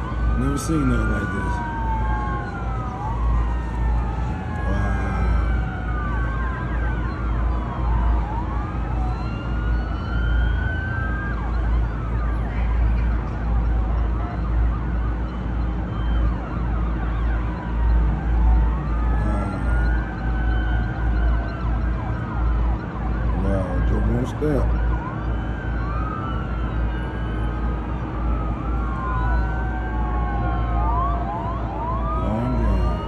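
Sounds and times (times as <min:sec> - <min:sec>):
sirens wailing: 0:00.0 - 0:33.0.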